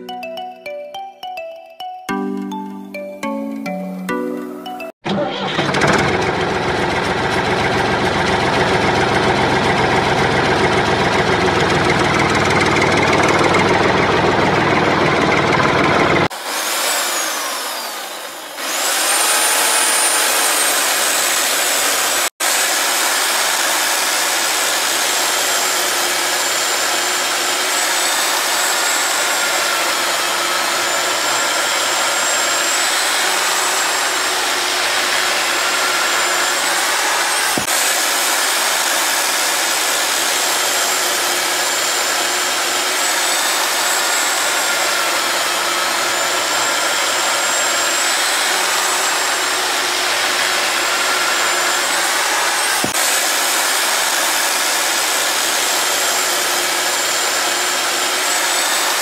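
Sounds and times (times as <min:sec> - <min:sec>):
small electric motor whining: 0:05.1 - 0:59.0.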